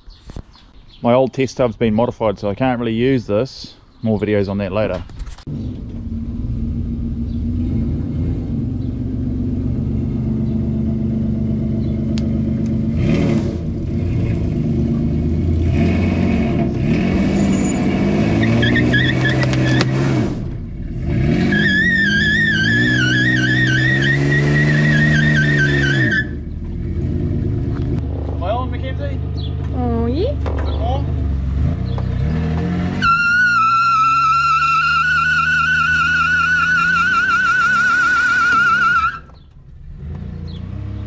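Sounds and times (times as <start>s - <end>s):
engine revving: 5.5s - 41.0s.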